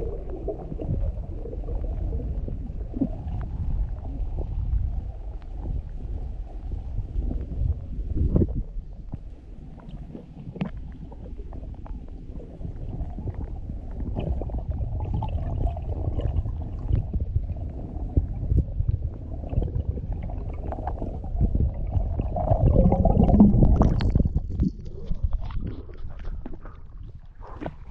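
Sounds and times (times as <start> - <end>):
water bubbling: 0.0 - 5.4, 9.9 - 27.9
muffled underwater rumble: 0.0 - 27.9.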